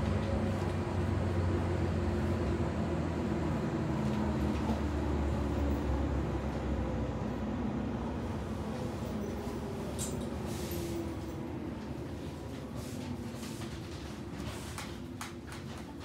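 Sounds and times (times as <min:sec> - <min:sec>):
wheel and rail rumble: 0:00.0 - 0:16.0.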